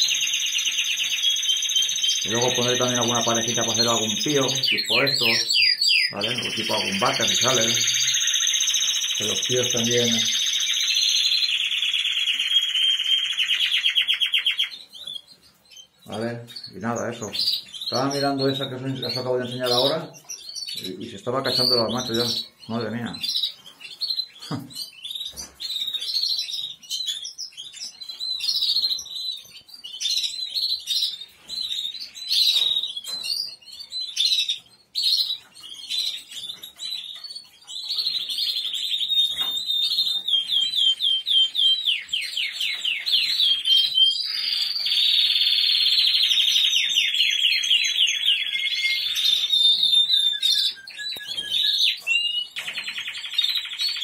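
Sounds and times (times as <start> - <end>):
bird song with rolling trills: 0.0 - 54.0
songbirds chirping: 0.0 - 54.0.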